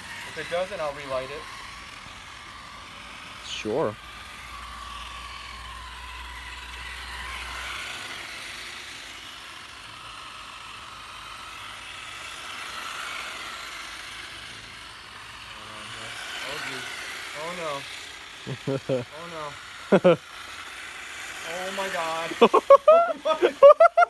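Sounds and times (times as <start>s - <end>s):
sparklers crackling and hissing: 0.0s - 24.0s.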